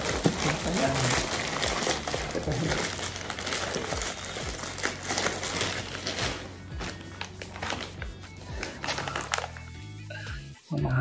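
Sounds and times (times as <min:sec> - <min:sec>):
plastic packaging crinkling: 0:00.0 - 0:09.9
background music: 0:00.0 - 0:11.0.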